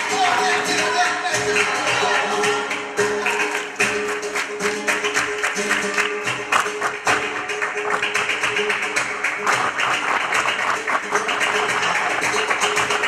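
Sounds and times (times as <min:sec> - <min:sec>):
flamenco guitar: 0:00.0 - 0:13.0.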